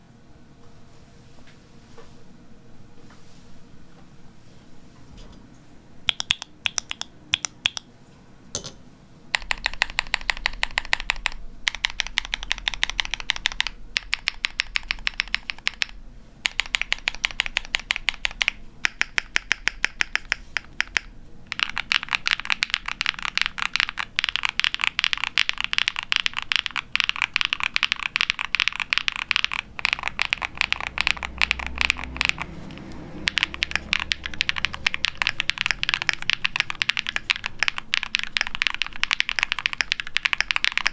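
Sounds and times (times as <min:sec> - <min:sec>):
mechanical keyboard typing: 0:06.1 - 0:07.9, 0:09.3 - 0:40.9.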